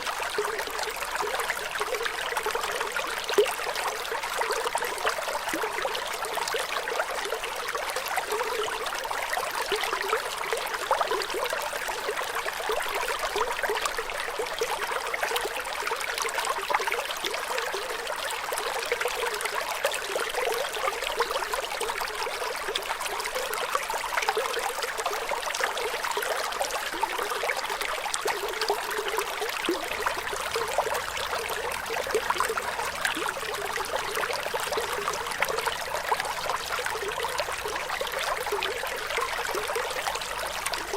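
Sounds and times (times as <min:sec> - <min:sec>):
flowing water trickling: 0:00.0 - 0:40.9.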